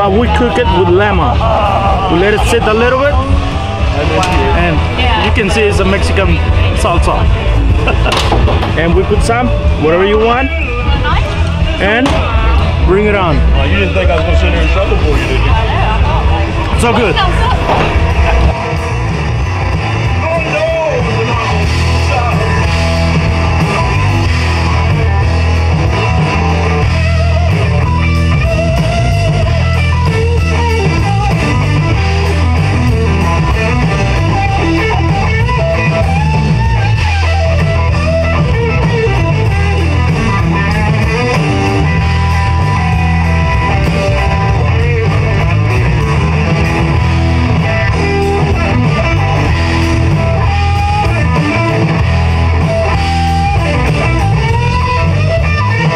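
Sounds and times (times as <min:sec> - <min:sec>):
drum kit: 0:00.0 - 0:55.9
electric guitar lead: 0:00.0 - 0:55.9.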